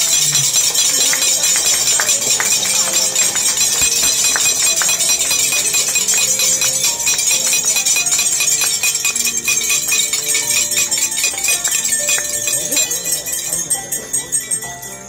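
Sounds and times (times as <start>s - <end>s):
glasses clinking: 0.0s - 15.0s.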